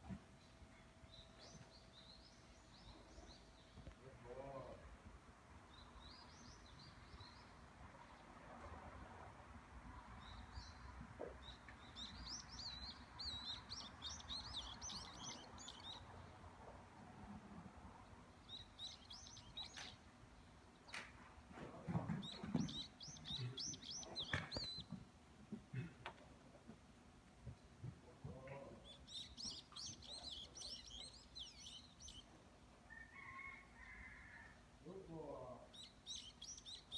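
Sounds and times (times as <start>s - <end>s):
faint outdoor background noise: 0.0s - 36.9s
small birds twittering: 0.4s - 4.8s, 5.7s - 8.3s, 10.2s - 16.7s, 18.0s - 25.0s, 27.4s - 36.9s.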